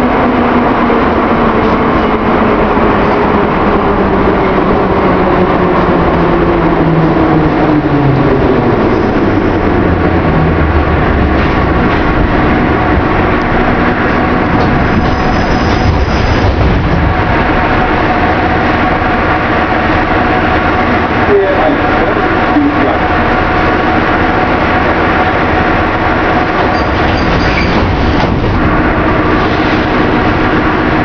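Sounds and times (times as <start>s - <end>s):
train rumble and hum: 0.0s - 31.0s.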